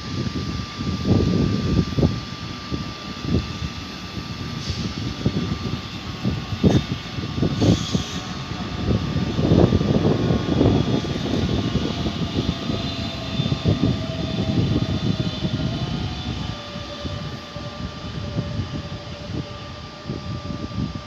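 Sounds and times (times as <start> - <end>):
steady whining tones: 0.0 - 21.0
train rumble with knocks: 0.0 - 21.0.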